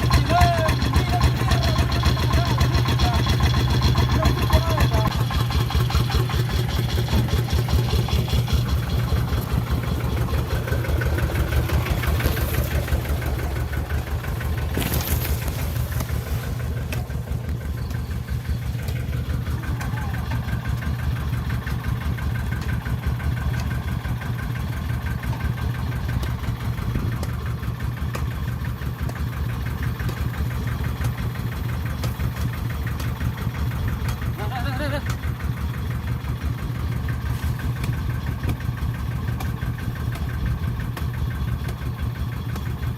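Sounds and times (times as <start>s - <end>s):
diesel engine thudding: 0.0s - 42.9s.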